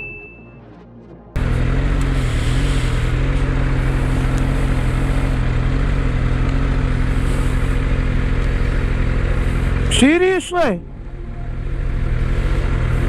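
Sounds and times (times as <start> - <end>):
motorcycle engine running: 1.4 - 13.0.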